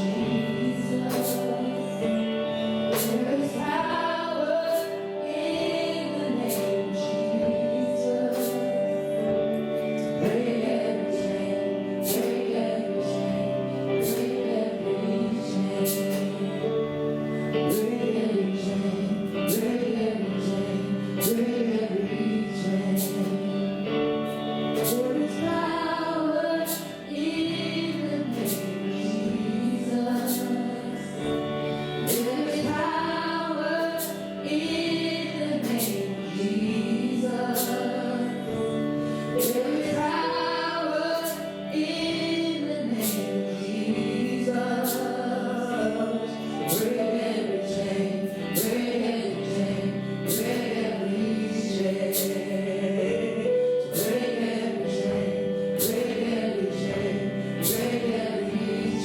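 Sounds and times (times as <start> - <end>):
gospel song with voices singing: 0.0 - 59.0.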